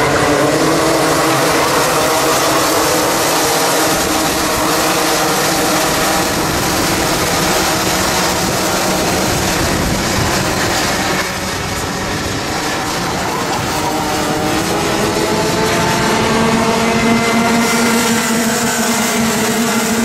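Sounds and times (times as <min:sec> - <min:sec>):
kart engines racing past: 0:00.0 - 0:20.0.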